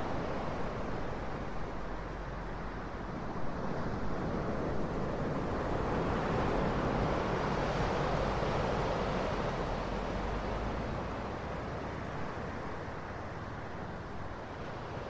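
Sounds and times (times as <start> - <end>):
ocean surf waves: 0.0 - 15.0.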